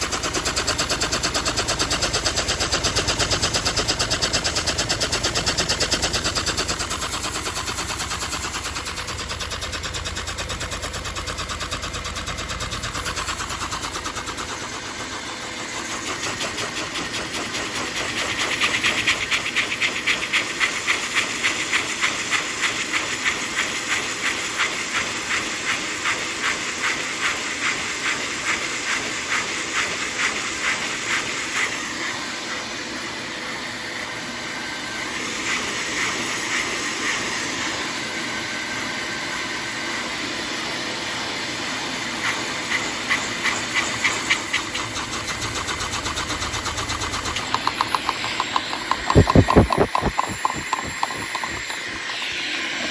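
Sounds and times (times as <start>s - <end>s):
toy vacuum engine hissing: 0.0s - 38.0s, 41.0s - 52.9s.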